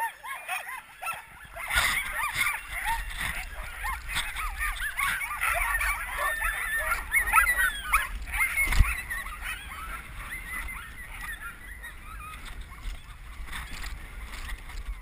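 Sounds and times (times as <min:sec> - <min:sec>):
dogs yelping and howling: 0:00.0 - 0:15.0.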